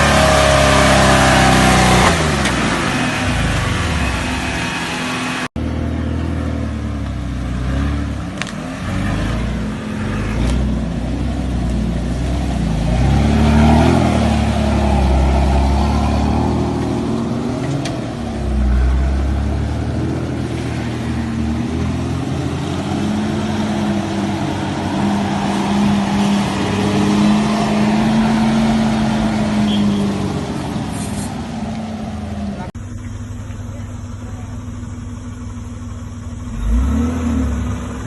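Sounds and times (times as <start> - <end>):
car engine revving under load: 0.0 - 38.0.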